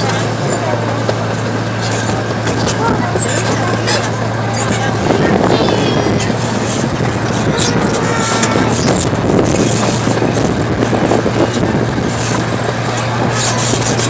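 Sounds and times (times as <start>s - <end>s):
low hum: 0.0s - 14.0s
ride-on train rumble: 0.0s - 14.0s.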